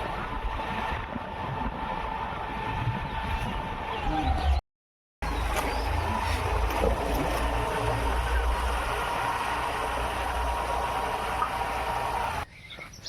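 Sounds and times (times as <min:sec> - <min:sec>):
constant whine: 0:00.0 - 0:04.6, 0:05.2 - 0:12.5
vehicle rumbling: 0:00.0 - 0:04.6, 0:05.2 - 0:13.0.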